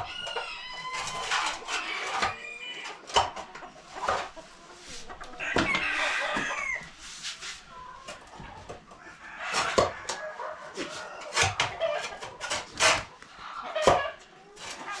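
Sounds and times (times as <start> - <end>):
chickens squawking and clucking: 0.0 - 15.0.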